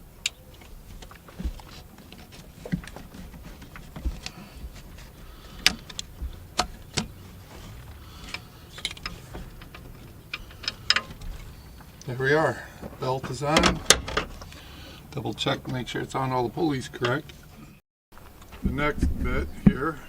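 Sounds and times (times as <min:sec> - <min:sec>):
belt worked over pulleys: 0:00.0 - 0:17.8.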